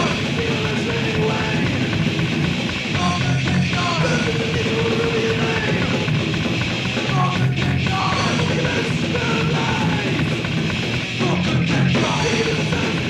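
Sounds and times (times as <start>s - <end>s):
bass and drums: 0.0s - 13.0s
distorted electric guitars: 0.0s - 13.0s
thrash metal music: 0.0s - 13.0s.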